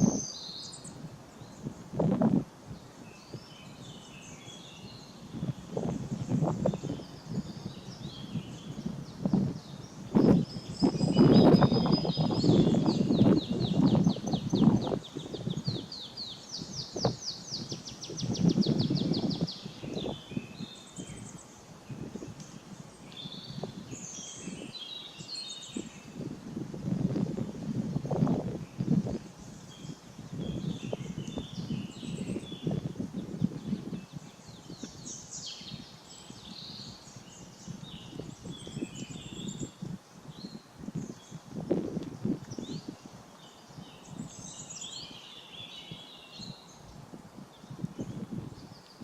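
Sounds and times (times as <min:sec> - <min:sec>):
small birds chirping: 0:00.0 - 0:26.7, 0:27.3 - 0:49.0
songbird singing: 0:00.0 - 0:49.0.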